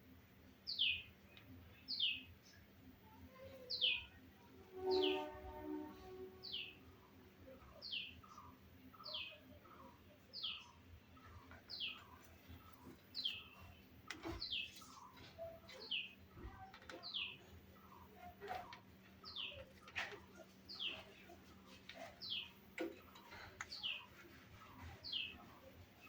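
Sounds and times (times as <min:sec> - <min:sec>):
bird chirping: 0:00.7 - 0:02.6, 0:04.8 - 0:26.0.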